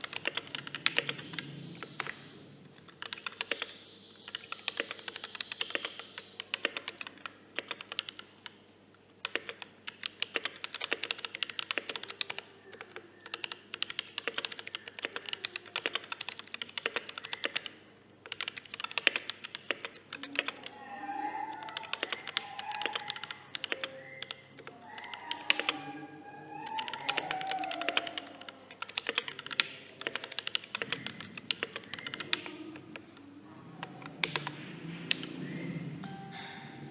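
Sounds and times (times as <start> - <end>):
mechanical keyboard typing: 0.0 - 2.2, 2.8 - 8.6, 9.2 - 20.8, 21.5 - 26.0, 26.6 - 33.2, 33.8 - 35.3.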